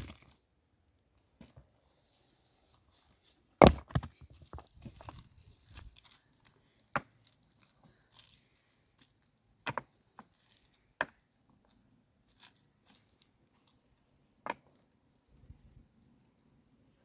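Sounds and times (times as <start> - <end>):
faint handling noise: 1.2 - 16.5.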